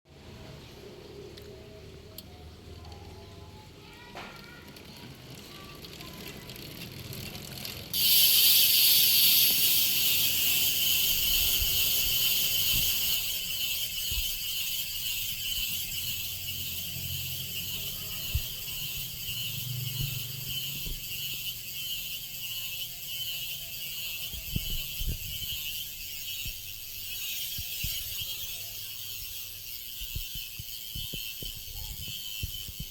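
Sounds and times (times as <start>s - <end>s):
bicycle freehub ratchet buzzing: 3.9s - 32.9s.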